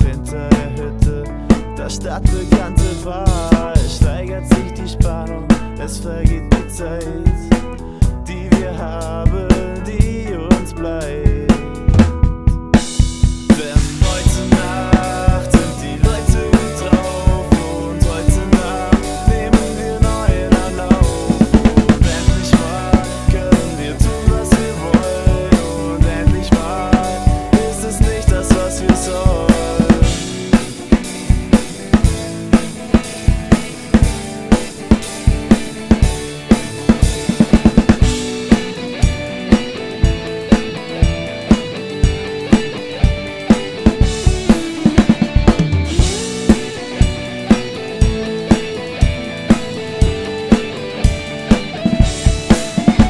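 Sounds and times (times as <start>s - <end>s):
band music with guitars and bass: 0.0s - 53.0s
drum kit playing a groove: 0.0s - 53.0s.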